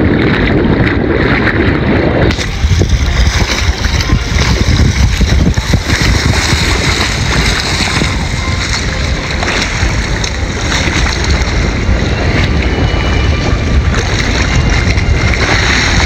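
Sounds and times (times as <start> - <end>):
waves washing in shallow water: 0.0 - 16.0
wind buffeting microphone: 0.0 - 16.0.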